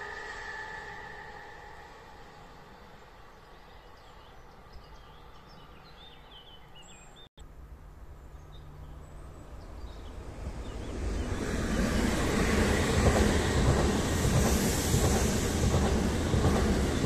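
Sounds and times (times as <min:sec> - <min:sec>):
train approaching: 0:00.0 - 0:05.8, 0:09.1 - 0:17.0.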